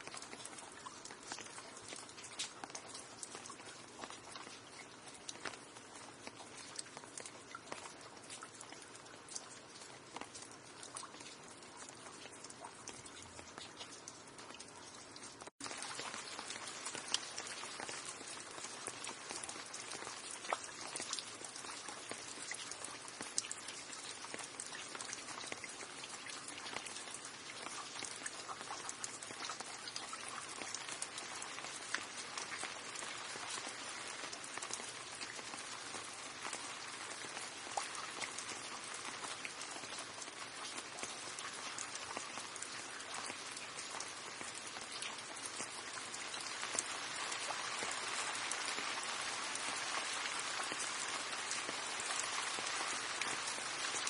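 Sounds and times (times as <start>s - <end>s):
raindrops ticking: 0.0s - 54.0s
steady rain hiss: 0.0s - 54.0s.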